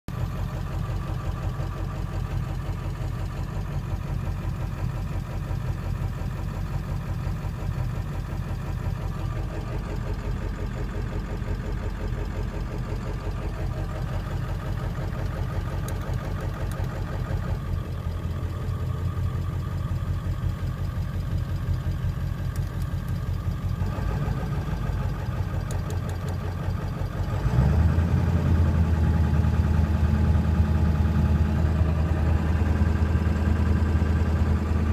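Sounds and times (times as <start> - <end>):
engine idling roughly: 0.1 - 34.9.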